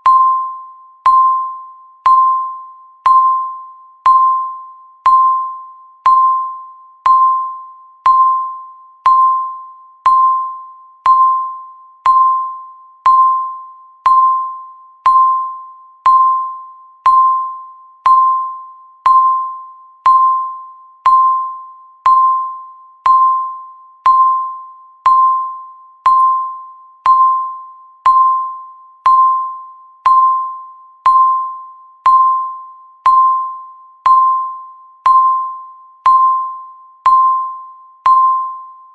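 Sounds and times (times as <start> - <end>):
timer beeps: 0.0 - 38.9.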